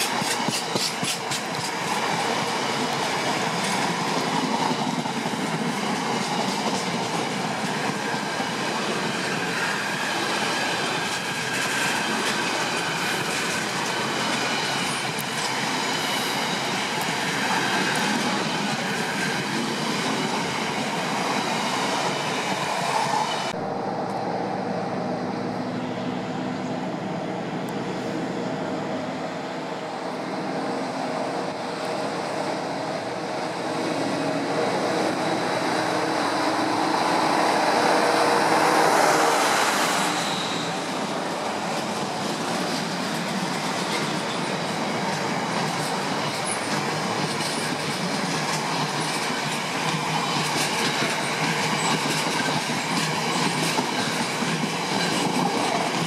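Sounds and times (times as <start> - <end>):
train wheels clattering on rails: 0.0 - 23.6, 34.6 - 56.0
distant diesel locomotive hum: 0.0 - 56.0.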